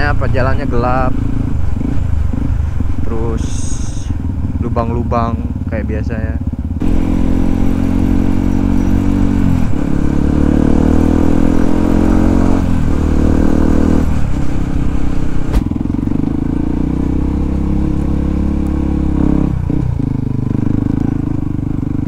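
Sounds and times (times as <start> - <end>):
motorcycle engine shifting gears: 0.0 - 5.8, 6.4 - 22.0.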